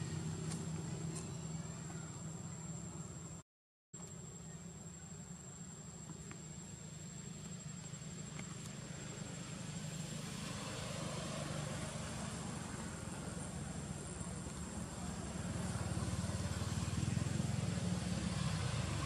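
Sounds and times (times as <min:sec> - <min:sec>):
engine running: 0:00.0 - 0:02.6, 0:06.0 - 0:19.0.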